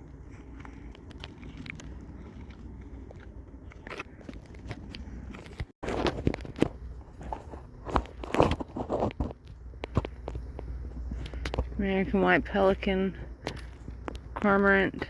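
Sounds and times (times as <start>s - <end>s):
footsteps crunching on trail: 0.0s - 15.0s.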